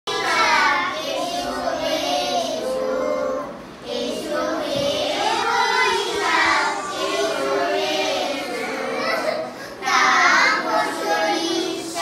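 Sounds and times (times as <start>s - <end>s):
young children singing: 0.1s - 12.0s.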